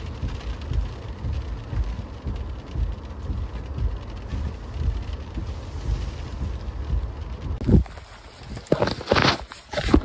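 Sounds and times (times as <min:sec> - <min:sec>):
gusty wind heard inside car: 0:00.0 - 0:10.0.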